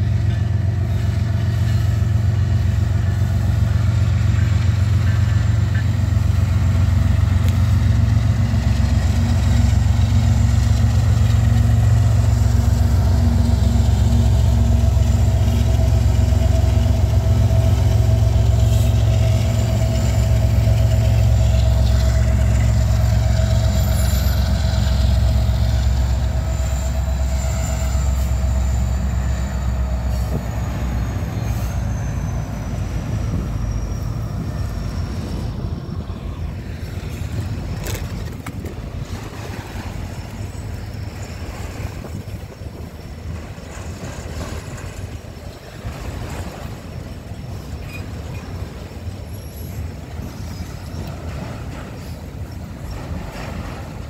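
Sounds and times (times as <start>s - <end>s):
train wheels clattering on rails: 0.0s - 35.8s, 36.6s - 54.0s
diesel locomotive engine running: 0.0s - 54.0s.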